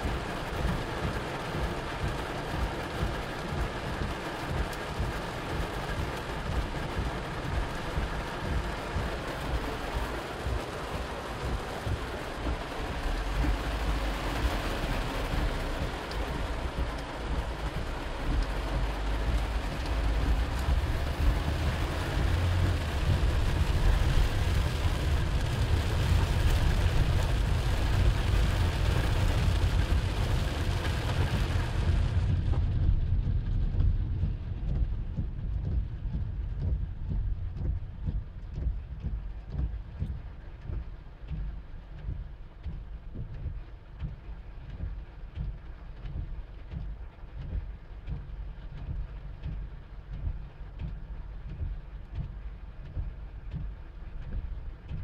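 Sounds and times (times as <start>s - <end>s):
heavy rain drumming on car roof: 0.0s - 55.0s
low rumble of moving car: 0.0s - 55.0s.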